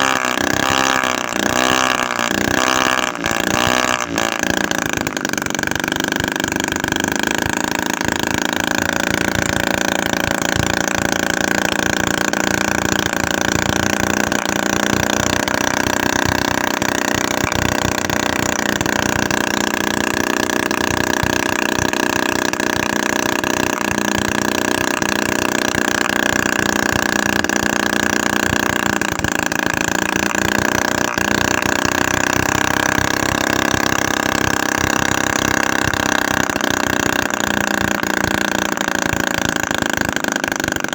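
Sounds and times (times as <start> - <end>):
small two-stroke engine buzzing: 0.0 - 40.9.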